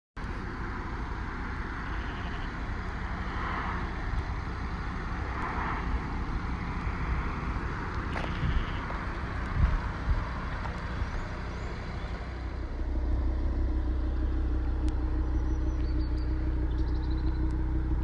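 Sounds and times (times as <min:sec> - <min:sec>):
car engine running at low revs: 0:00.2 - 0:18.0.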